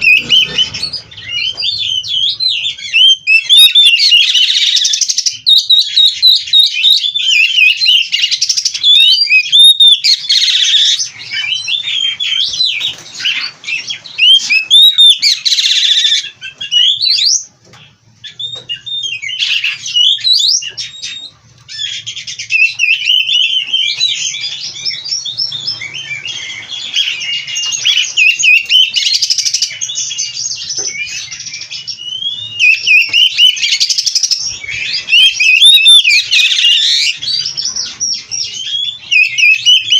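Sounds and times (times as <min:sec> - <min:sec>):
bird singing whistles and trills: 0:00.0 - 0:17.5, 0:18.2 - 0:39.9.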